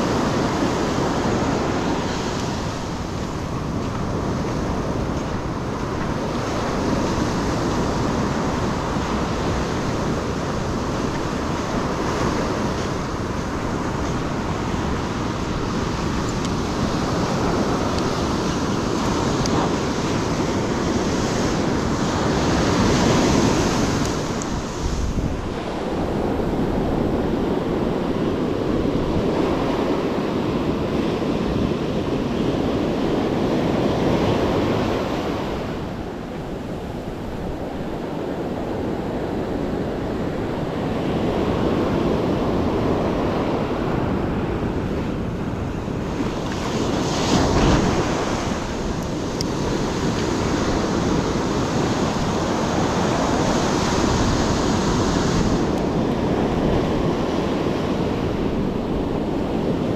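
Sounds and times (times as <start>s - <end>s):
ocean surf breaking on beach: 0.0s - 59.9s
wind buffeting microphone: 0.0s - 59.9s.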